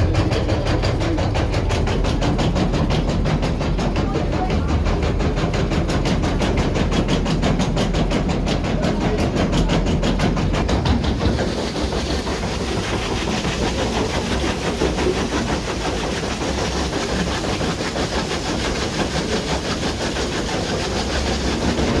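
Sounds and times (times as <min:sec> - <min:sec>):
water wheel rushing: 0:00.0 - 0:22.0
wooden mill clattering: 0:00.0 - 0:22.0.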